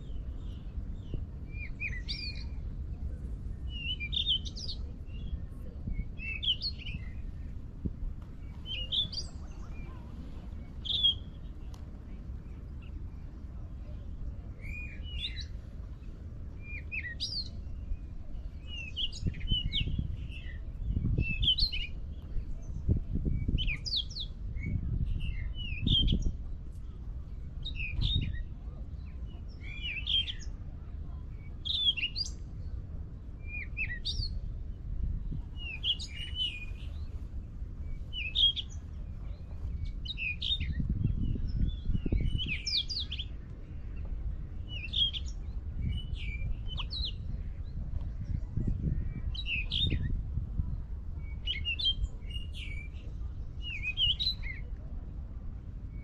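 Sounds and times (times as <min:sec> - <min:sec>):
bird singing: 0:00.0 - 0:02.8, 0:03.6 - 0:07.5, 0:08.4 - 0:11.7, 0:14.6 - 0:32.7, 0:33.4 - 0:34.6, 0:35.3 - 0:50.2, 0:51.2 - 0:54.8.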